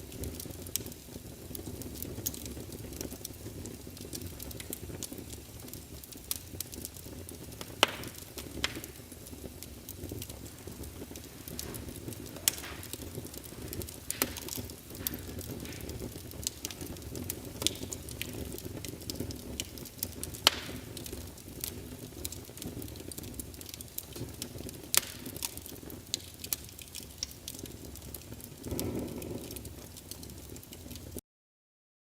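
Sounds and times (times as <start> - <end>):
wood fire crackling: 0.0 - 31.2.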